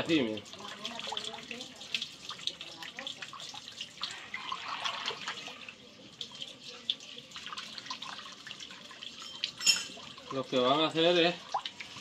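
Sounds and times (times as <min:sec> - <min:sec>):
liquid dripping through cloth: 0:00.0 - 0:12.0.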